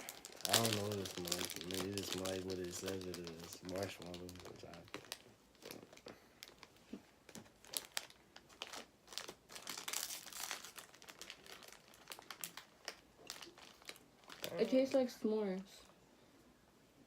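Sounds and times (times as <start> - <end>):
plastic wrapper crinkling: 0.0 - 15.9.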